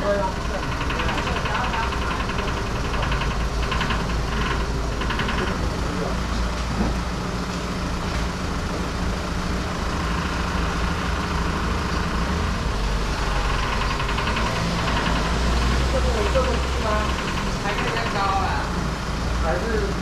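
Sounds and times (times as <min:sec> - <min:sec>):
rapid high buzzing: 0:00.0 - 0:06.3, 0:08.8 - 0:19.7
truck engines rumbling: 0:00.0 - 0:20.0.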